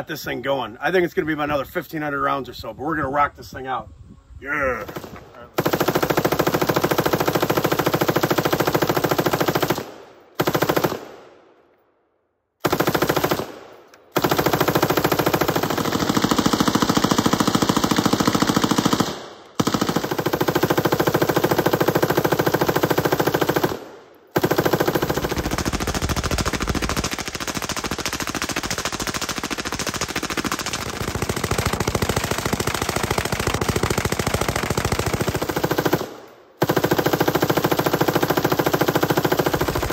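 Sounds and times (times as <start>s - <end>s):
machine gun firing bursts: 4.8s - 11.6s, 12.6s - 39.9s.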